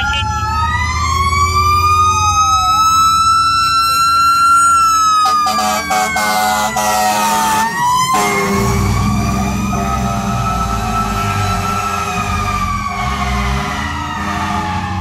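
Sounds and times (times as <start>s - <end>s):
short siren blasts: 0.0s - 3.5s, 4.5s - 15.0s
diesel engine rumbling: 0.0s - 15.0s
fire engine siren wailing: 0.0s - 15.0s.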